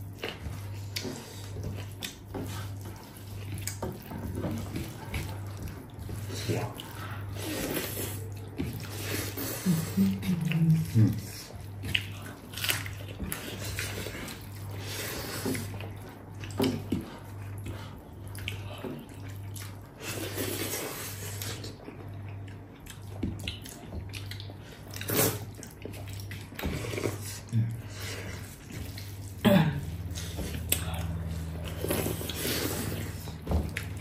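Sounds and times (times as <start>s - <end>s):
faint low hum: 0.0s - 34.0s
wet chewing and slurping: 0.0s - 34.0s.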